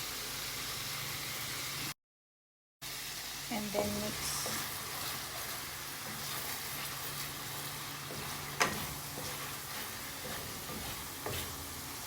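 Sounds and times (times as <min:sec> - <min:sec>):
food sizzling in a pan: 0:00.0 - 0:02.0, 0:02.8 - 0:12.0.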